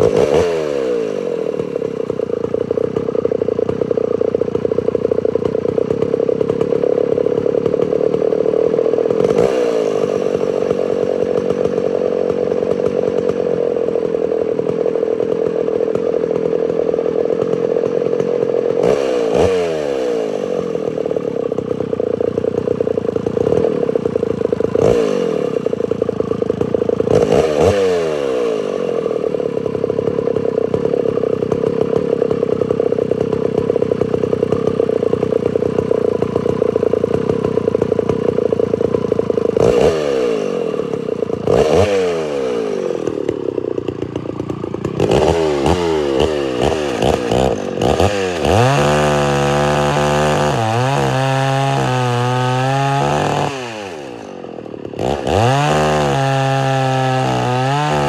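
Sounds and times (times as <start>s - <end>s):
chainsaw engine revving: 0.0s - 58.0s.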